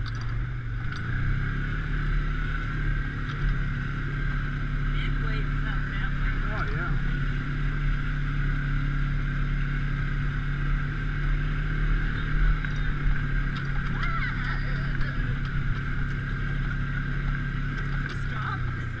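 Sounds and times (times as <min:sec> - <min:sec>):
motorboat engine droning: 0:00.0 - 0:19.0.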